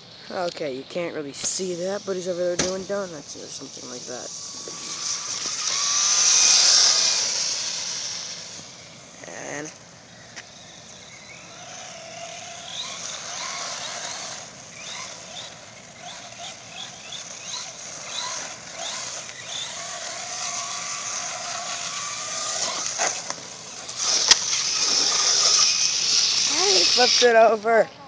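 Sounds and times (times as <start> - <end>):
steady hiss: 0.0 - 11.4, 16.6 - 27.8
toy truck motor whining: 1.4 - 27.8.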